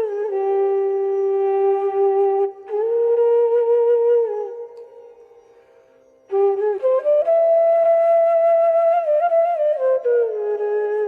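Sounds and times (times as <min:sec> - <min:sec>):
flute-like melody: 0:00.0 - 0:11.0.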